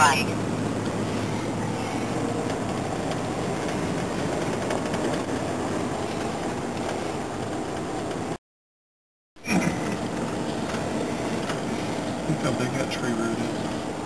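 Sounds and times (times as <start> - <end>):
road and engine noise inside car: 0.0 - 8.4, 9.4 - 14.0.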